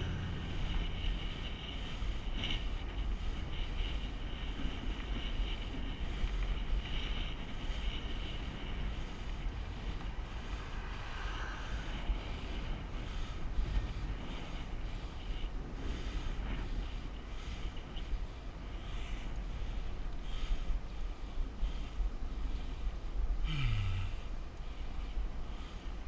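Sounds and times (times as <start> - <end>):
steady low rumble: 0.0 - 26.0
wind on microphone: 0.0 - 26.0.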